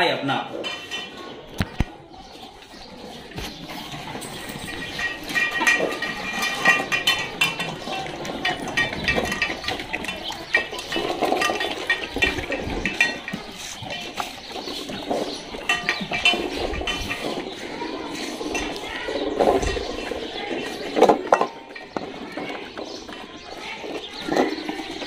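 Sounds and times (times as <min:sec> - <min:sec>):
metal bowls clinking and scraping: 0:00.4 - 0:25.0.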